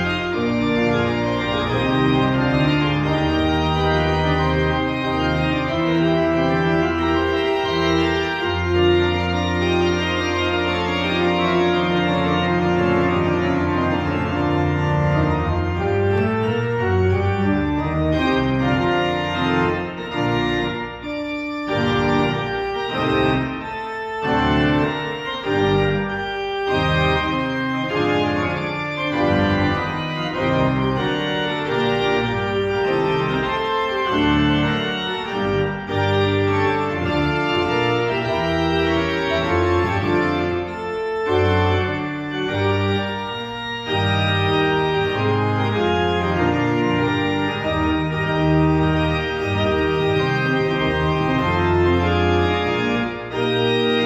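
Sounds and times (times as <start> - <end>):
pipe organ chords: 0.0 - 54.0.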